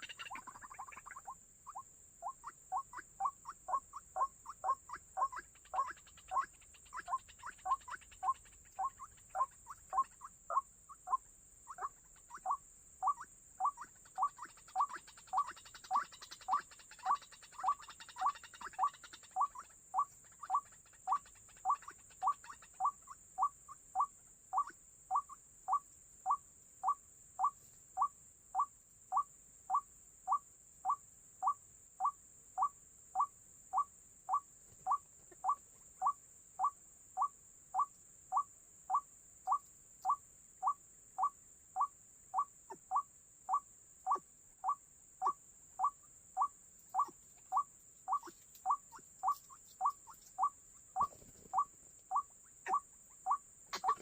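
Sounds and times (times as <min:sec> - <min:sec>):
waterhen calling: 0:00.0 - 0:30.4, 0:31.4 - 0:54.0
steady high hiss: 0:00.0 - 0:54.0.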